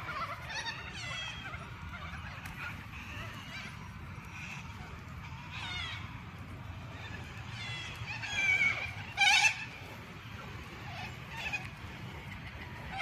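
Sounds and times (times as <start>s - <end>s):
harsh bird calls: 0.0s - 13.0s
steady low rumble: 0.0s - 13.0s.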